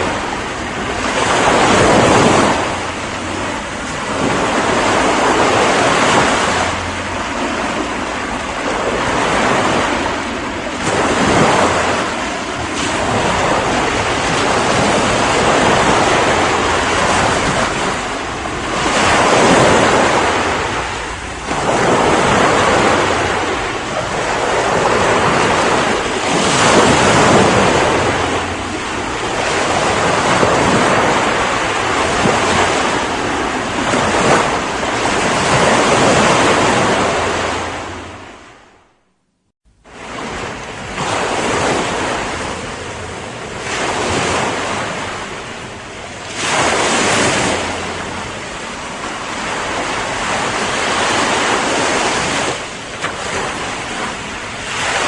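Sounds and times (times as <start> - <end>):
ocean waves breaking on shore: 0.0 - 39.0, 39.7 - 55.0
wind: 0.0 - 55.0.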